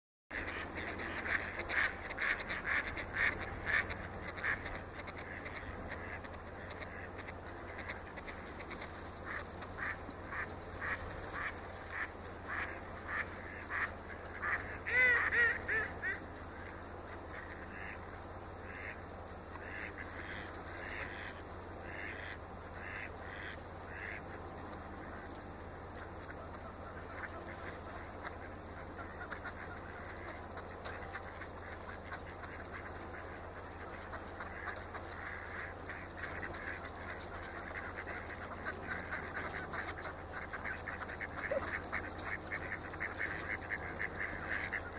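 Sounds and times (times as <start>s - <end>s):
ducks quacking: 0.3s - 44.9s
steady low rumble: 0.3s - 44.9s.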